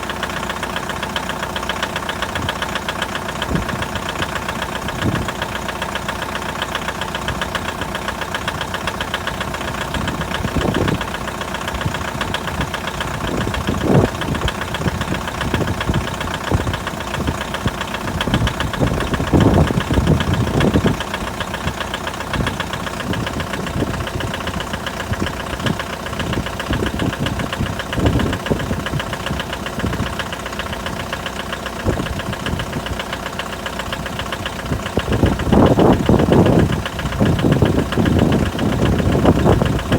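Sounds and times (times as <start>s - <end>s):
diesel engine idling with clatter: 0.0s - 39.9s.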